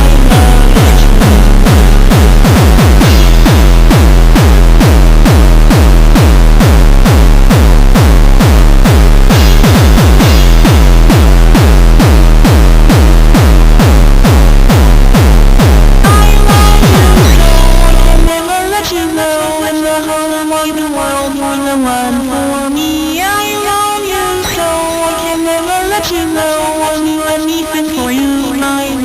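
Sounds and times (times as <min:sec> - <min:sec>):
electronic dance music: 0:00.0 - 0:29.0.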